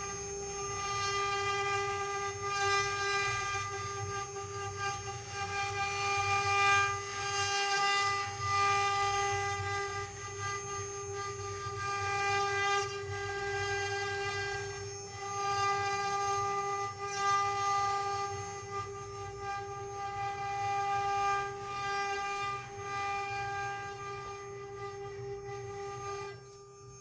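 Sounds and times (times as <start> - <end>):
router spindle whine: 0.0 - 27.0.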